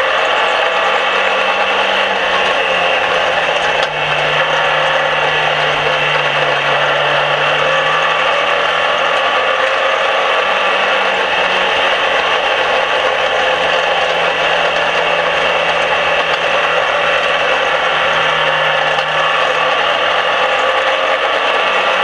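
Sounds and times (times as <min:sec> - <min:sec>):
race car engine buzzing drone: 0:00.0 - 0:22.0.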